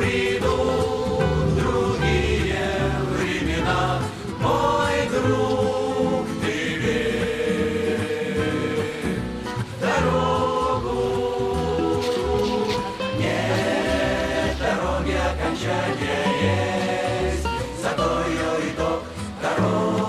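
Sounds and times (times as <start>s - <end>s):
song with voices singing together: 0.0s - 20.0s.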